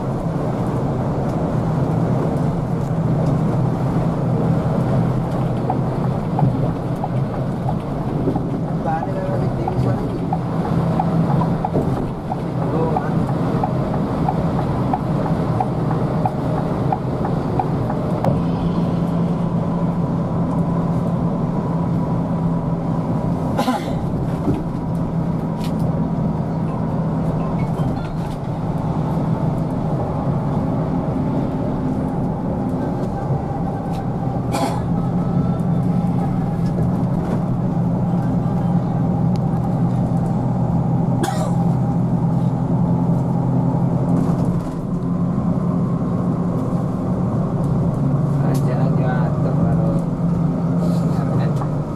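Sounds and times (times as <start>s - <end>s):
road and wind noise: 0.0s - 51.9s
steady engine drone: 0.0s - 51.9s.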